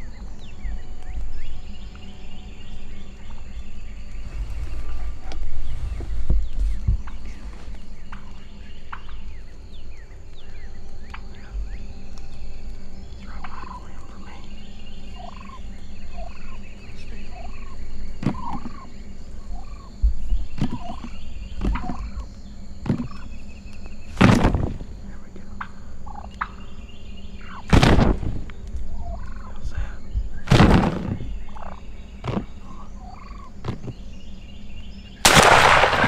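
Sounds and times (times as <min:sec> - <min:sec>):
wild turkeys calling: 0:00.0 - 0:24.2, 0:24.9 - 0:36.0.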